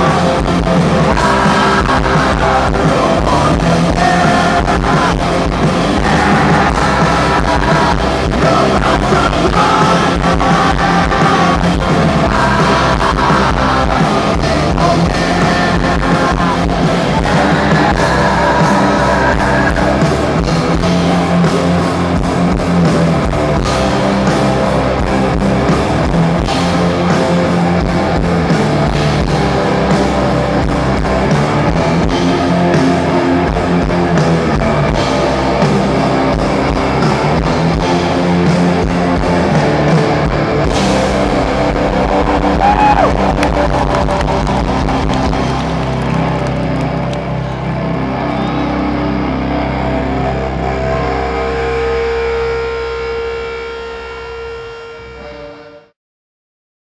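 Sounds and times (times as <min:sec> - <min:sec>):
rock band playing loud: 0:00.0 - 0:55.9.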